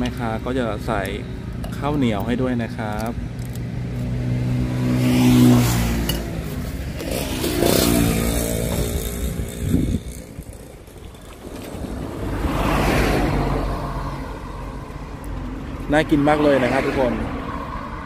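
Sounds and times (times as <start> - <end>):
motorcycles passing: 0.0 - 18.0
road traffic passing: 0.0 - 18.0.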